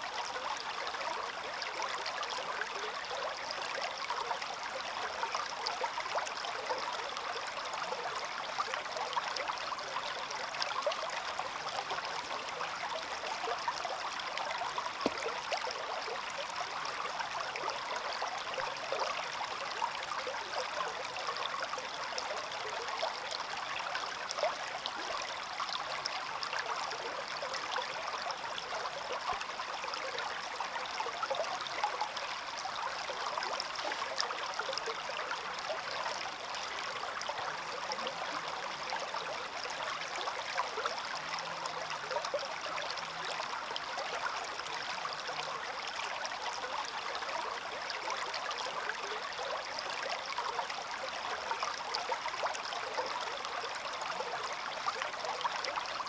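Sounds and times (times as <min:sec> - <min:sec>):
stream babbling over stones: 0:00.2 - 0:56.0.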